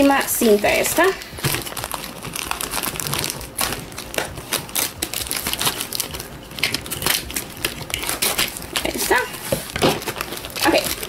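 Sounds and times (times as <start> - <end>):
scissors snipping plastic and tape: 1.4 - 11.0.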